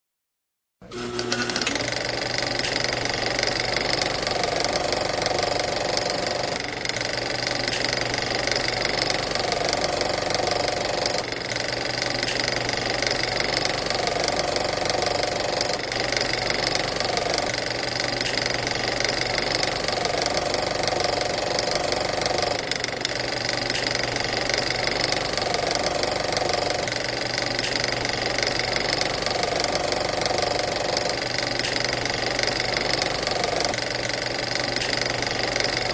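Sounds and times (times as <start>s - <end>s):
film projector clattering: 0.8s - 35.9s.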